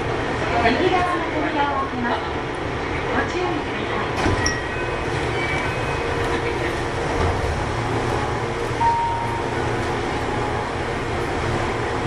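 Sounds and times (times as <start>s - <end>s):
train wheels and motors rumbling: 0.0s - 12.0s.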